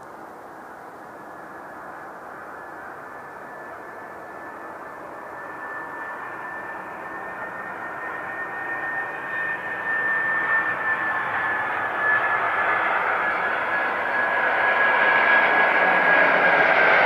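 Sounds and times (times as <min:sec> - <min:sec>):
jet engine noise with high whine: 0:00.0 - 0:17.0.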